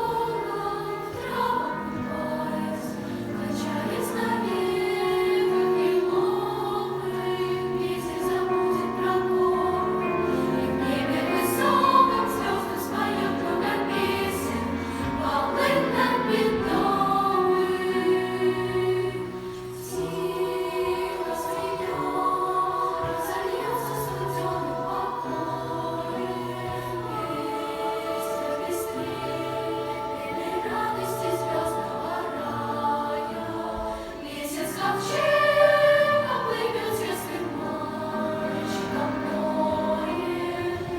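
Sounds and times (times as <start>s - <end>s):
choir singing sustained chords: 0.0s - 40.9s.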